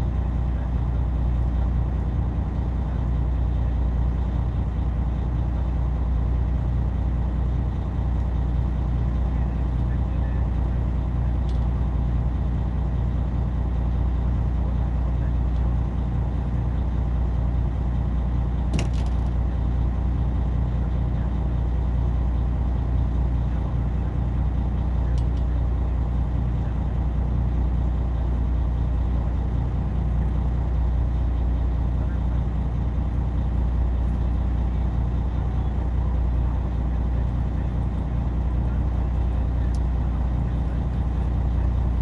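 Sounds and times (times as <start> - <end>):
boat engine idling: 0.0 - 42.0.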